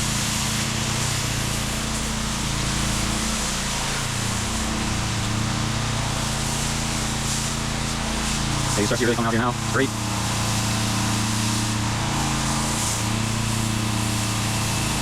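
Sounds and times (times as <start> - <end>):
hiss of water spraying: 0.0 - 15.0
pressure washer engine running: 0.0 - 15.0.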